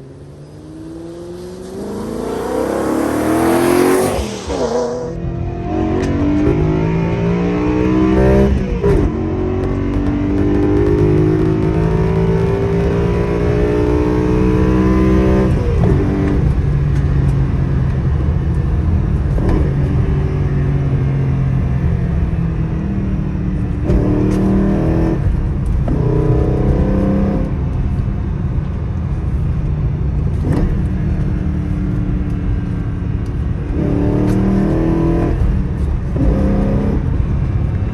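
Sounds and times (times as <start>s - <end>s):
car engine accelerating: 0.0s - 37.9s.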